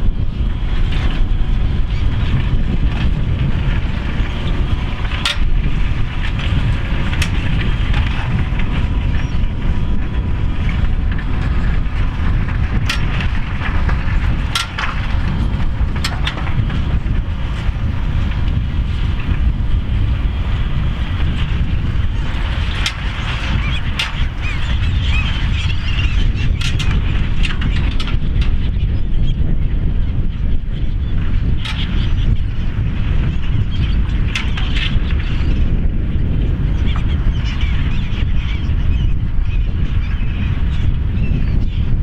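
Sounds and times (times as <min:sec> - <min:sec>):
tractor working under load: 0:00.0 - 0:41.7
wind buffeting microphone: 0:00.0 - 0:42.0.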